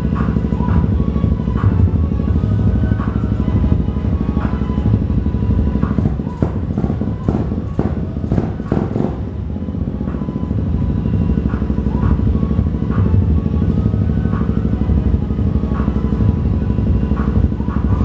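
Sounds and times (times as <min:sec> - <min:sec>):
scooter engine idling: 0:00.0 - 0:18.0.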